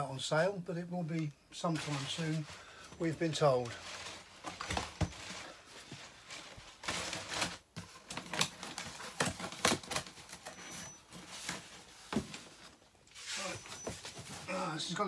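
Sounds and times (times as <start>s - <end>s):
packaging rustling and crinkling: 1.7s - 14.6s.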